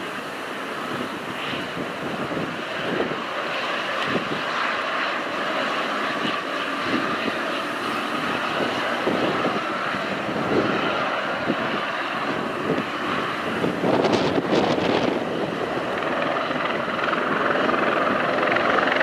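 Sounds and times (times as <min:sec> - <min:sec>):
helicopter engine whine: 0:00.0 - 0:19.0
helicopter rotor noise: 0:00.0 - 0:19.0.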